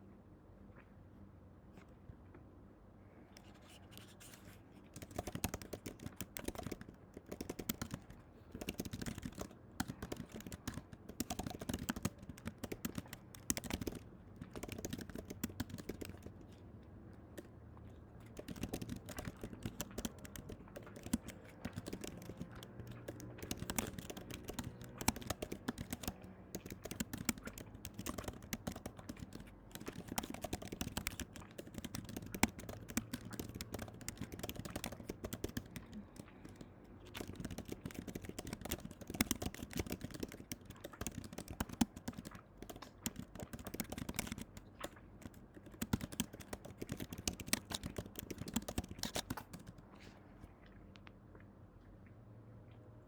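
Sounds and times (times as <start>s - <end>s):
rapid small clicks and taps: 3.4s - 50.0s.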